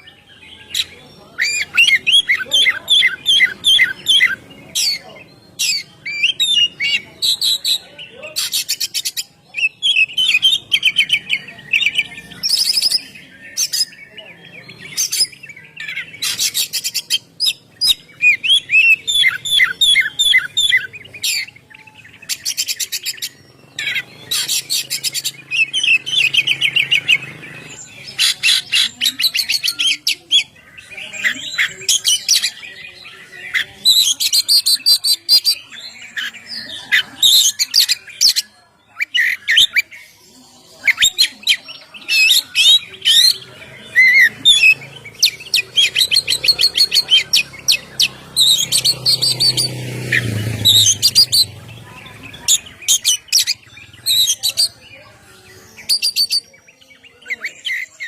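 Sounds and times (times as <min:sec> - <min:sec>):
magpie-robin singing: 0:00.0 - 0:58.0.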